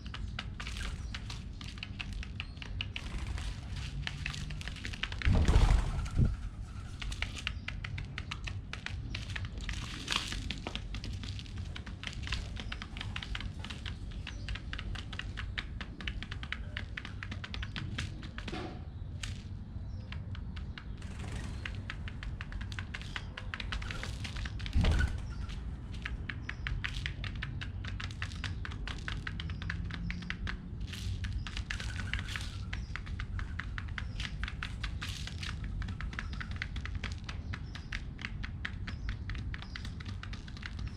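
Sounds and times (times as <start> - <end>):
pigeons pecking seeds: 0.0 - 40.9.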